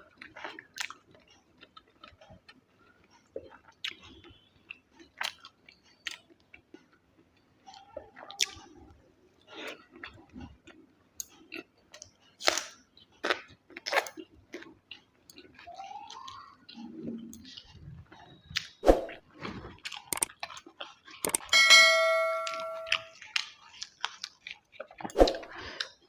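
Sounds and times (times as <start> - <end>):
person chewing food: 0.0 - 21.5, 23.1 - 26.0.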